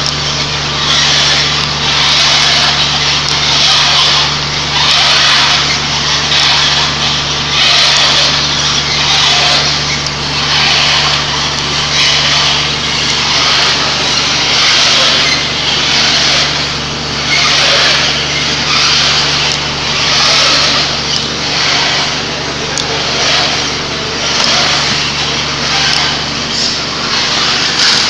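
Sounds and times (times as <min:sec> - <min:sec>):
loud rough machine noise: 0:00.0 - 0:28.0
motor hum: 0:00.0 - 0:28.0.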